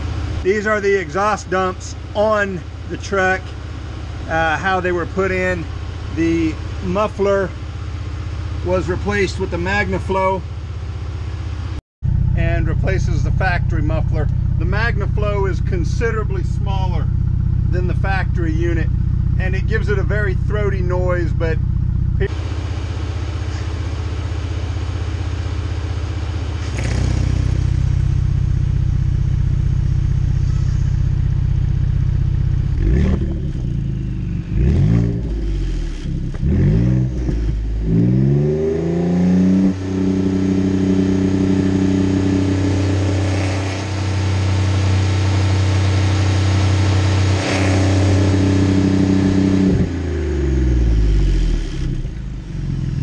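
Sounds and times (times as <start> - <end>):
engine exhaust revving: 0.0 - 53.0.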